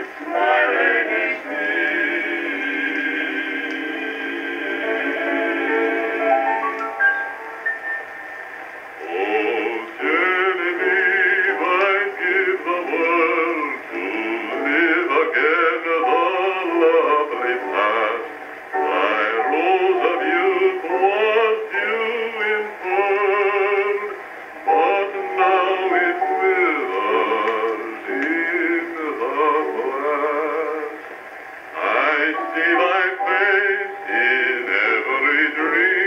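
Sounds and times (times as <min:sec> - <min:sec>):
male vocal quartet singing: 0:00.0 - 0:06.6, 0:09.0 - 0:31.1, 0:31.7 - 0:36.0.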